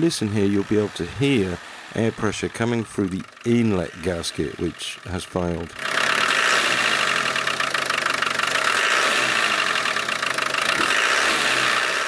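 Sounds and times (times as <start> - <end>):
diesel engine clatter: 0.0 - 12.0.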